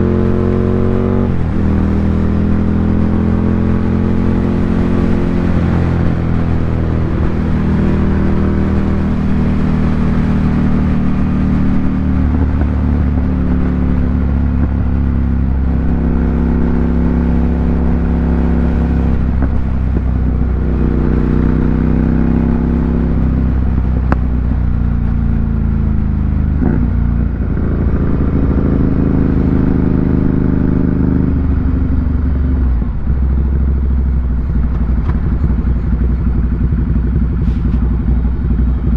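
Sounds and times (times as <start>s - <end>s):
loud motorcycle engine running: 0.0s - 38.9s.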